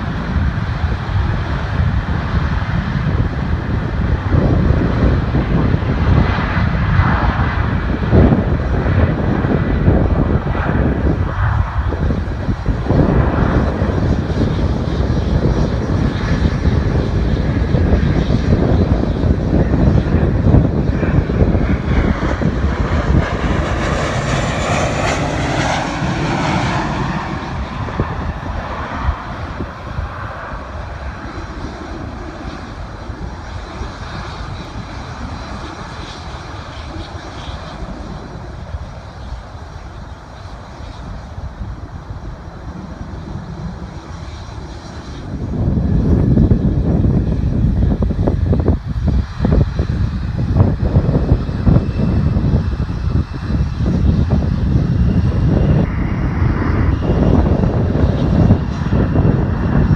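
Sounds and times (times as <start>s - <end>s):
airliner engines passing: 0.0s - 59.9s.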